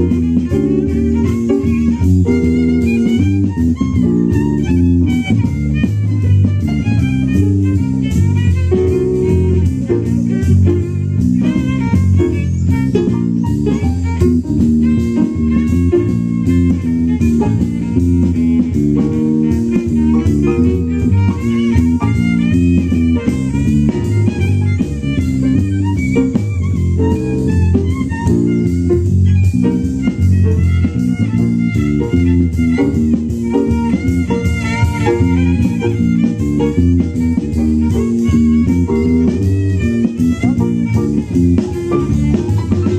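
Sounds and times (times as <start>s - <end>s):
bass: 0.0s - 42.9s
drum kit: 0.0s - 42.9s
piano: 0.0s - 42.9s
violin: 0.0s - 42.9s.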